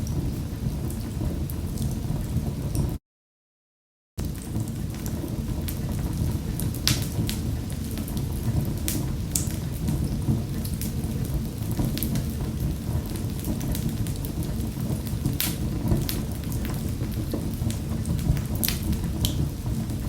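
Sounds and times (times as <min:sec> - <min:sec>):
wood fire crackling: 0:00.0 - 0:03.0, 0:04.2 - 0:20.0.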